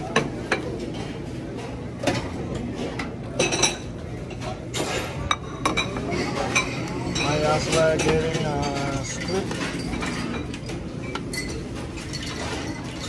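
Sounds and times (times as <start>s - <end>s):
utensils and dishes clinking: 0.0s - 13.0s.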